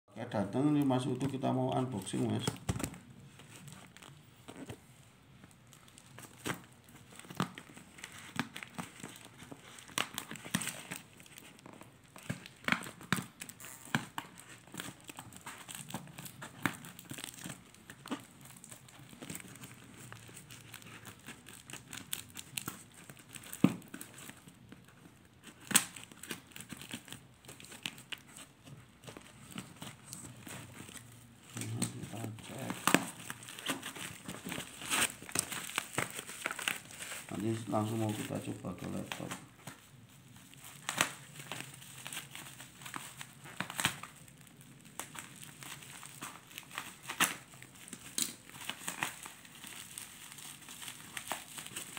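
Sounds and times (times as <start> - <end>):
plastic wrap crinkling: 0.3 - 51.9.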